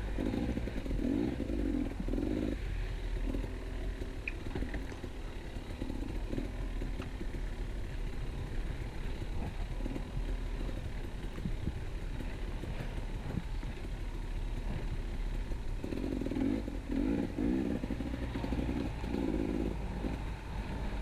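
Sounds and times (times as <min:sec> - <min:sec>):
two-stroke motorcycle engine: 0:00.0 - 0:21.0.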